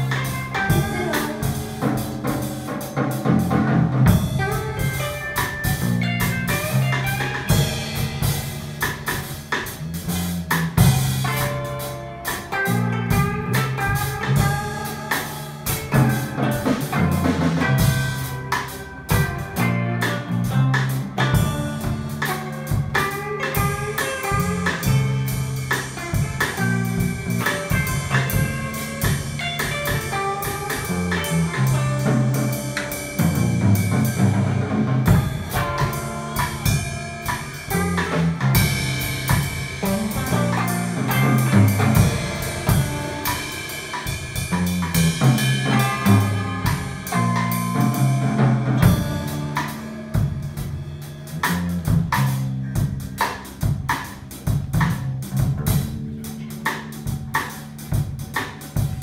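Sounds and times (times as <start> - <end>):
drum kit beat: 0.0 - 59.0
electric guitar riffs: 0.0 - 59.0.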